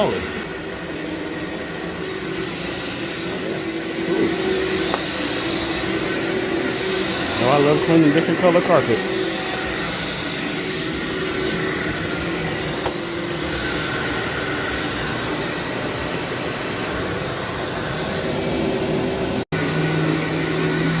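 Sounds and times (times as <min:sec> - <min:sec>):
vacuum cleaner sucking up grit: 0:01.6 - 0:21.0.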